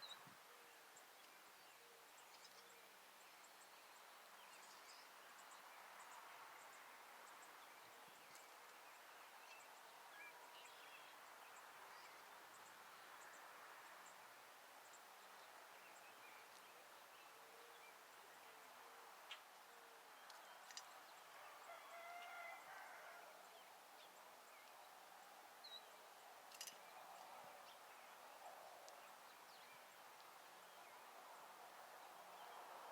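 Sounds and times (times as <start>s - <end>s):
steady low hiss: 0.0s - 32.9s.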